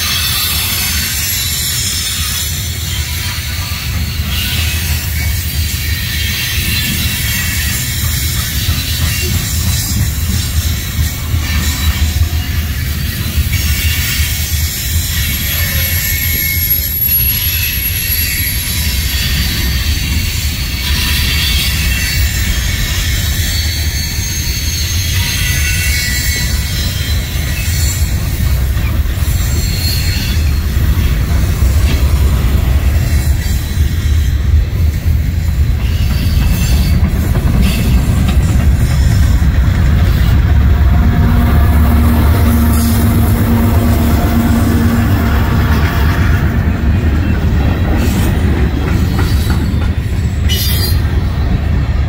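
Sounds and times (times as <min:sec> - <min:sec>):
wheels squealing: 0:00.0 - 0:51.9
diesel locomotive engine: 0:00.0 - 0:52.0
steel wheels rumbling on rail: 0:00.0 - 0:52.0.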